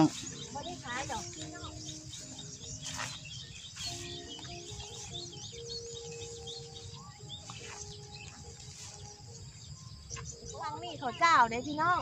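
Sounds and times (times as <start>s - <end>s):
faint held notes: 0.0s - 12.0s
small birds chirping: 0.0s - 12.0s.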